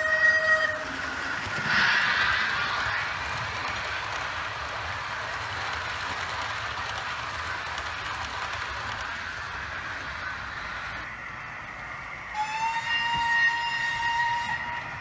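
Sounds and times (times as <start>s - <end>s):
model train wheels on rail: 0.0s - 15.0s.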